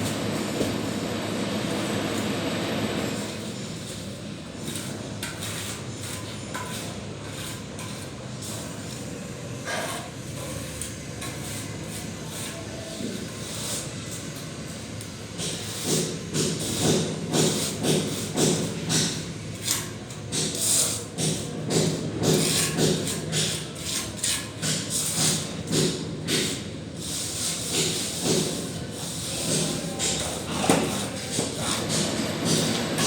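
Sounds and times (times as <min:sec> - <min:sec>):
trowel scraping plaster on wall: 0:03.2 - 0:14.8, 0:15.4 - 0:33.0.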